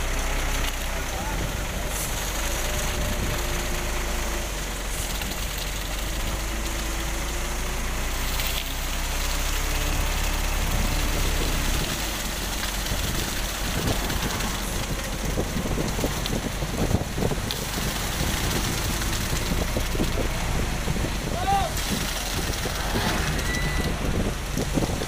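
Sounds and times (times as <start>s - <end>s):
concrete pouring down chute: 0.0s - 25.0s
diesel engine rumbling: 0.0s - 25.0s.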